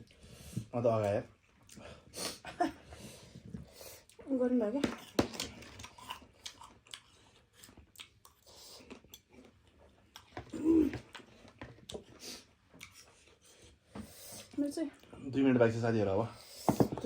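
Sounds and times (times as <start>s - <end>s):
people chewing noodles: 0.0s - 4.4s, 5.0s - 15.2s.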